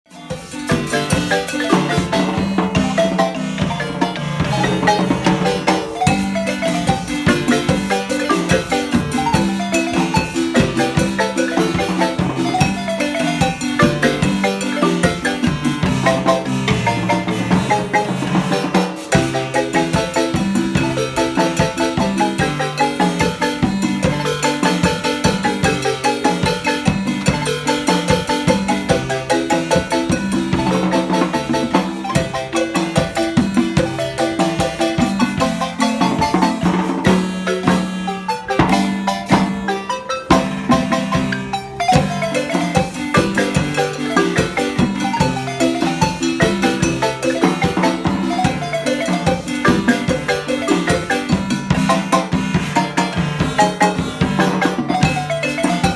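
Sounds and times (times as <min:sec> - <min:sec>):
drums keeping the beat: 0:00.1 - 0:55.9
marimba music: 0:00.1 - 0:55.9.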